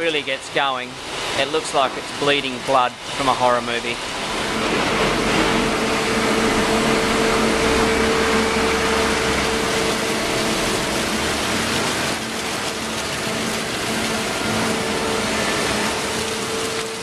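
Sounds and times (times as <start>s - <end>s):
machine drum humming: 0.0s - 17.0s
wine gushing into steel hopper: 0.0s - 17.0s.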